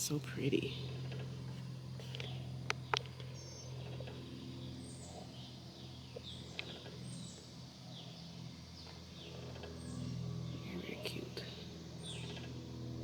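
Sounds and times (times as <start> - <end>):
birds chirping: 0.0 - 12.6
steady low hum: 0.0 - 13.0.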